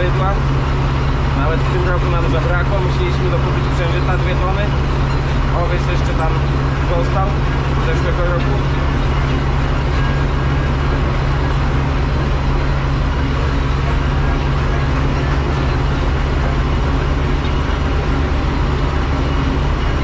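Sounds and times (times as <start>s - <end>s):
road noise: 0.0s - 20.0s
vehicle engine droning: 0.0s - 20.0s.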